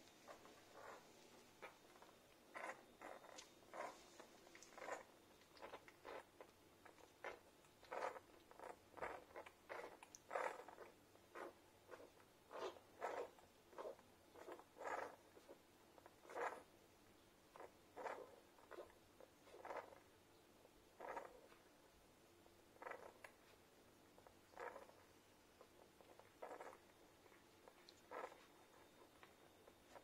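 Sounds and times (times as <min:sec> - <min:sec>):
puppies suckling and squeaking: 0:00.0 - 0:30.0.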